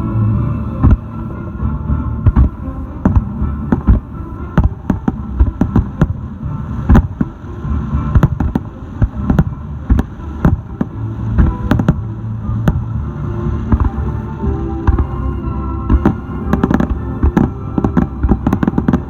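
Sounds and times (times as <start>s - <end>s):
low rumble: 0.0s - 19.0s
fireworks bursting bangs: 2.3s - 7.4s, 8.0s - 12.9s, 13.6s - 19.0s.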